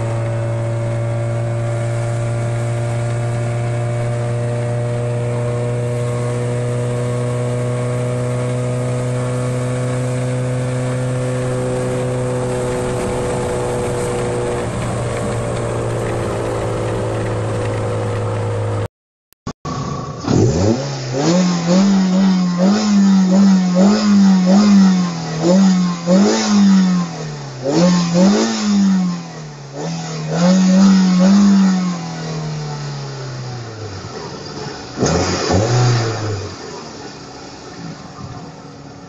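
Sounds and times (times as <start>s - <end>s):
car engine cruising inside cabin: 0.0s - 18.9s, 19.7s - 39.0s
car engine revving: 0.0s - 18.9s, 19.7s - 39.0s
car engine starting: 0.0s - 18.9s, 19.7s - 39.0s.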